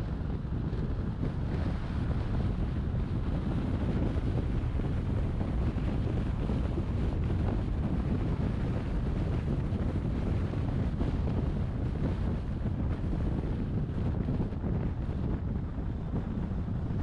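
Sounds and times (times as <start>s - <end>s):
car tyre and wind noise: 0.0s - 17.0s.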